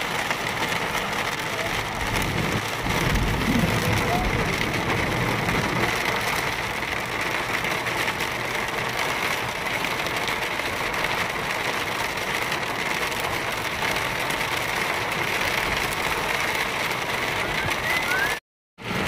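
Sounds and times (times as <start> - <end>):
car engine: 0.0 - 19.0
rain on car windshield: 0.0 - 19.0
road noise: 0.0 - 19.0.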